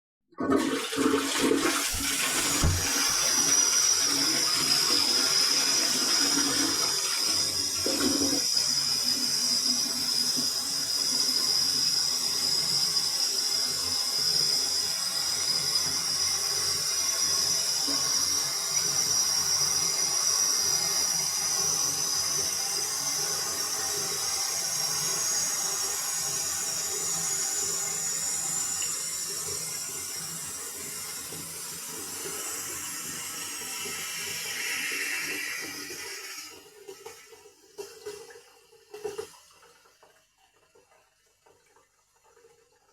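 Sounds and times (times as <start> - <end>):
toilet bowl gurgling: 0.3 - 42.9
toilet tank water hissing: 0.4 - 42.9.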